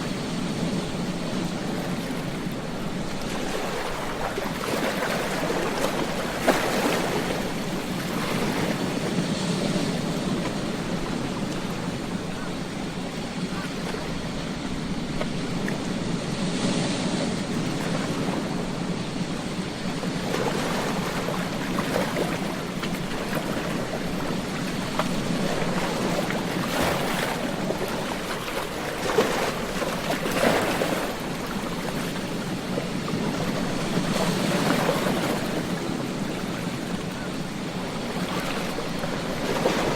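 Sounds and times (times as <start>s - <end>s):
ocean waves breaking on a beach: 0.0s - 39.9s.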